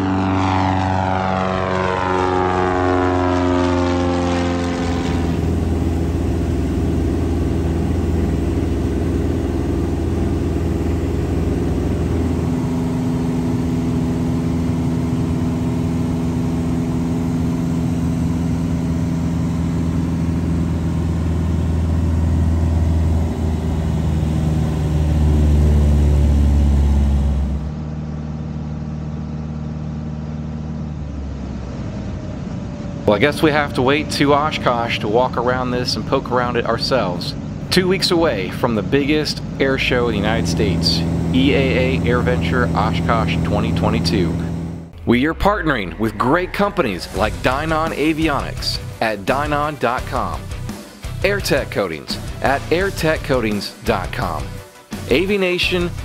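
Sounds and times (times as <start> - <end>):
propeller airplane flying past: 0.0 - 56.0.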